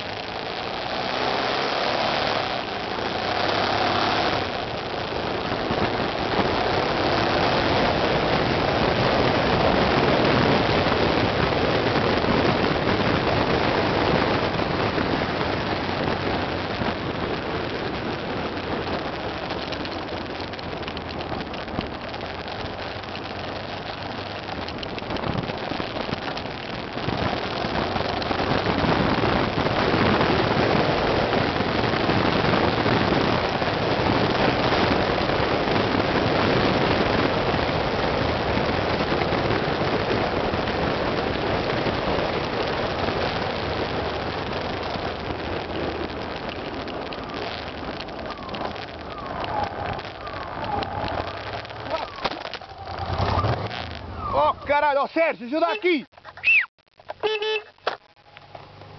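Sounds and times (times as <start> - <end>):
motorcycle engine: 0.0 - 54.8
wind rushing over microphone: 0.0 - 56.7
tyre noise on sandy track: 0.0 - 58.9.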